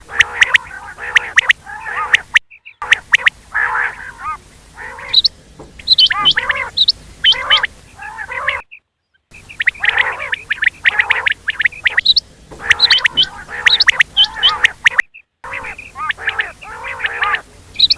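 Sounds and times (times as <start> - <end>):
quail calling: 0.0 - 17.9.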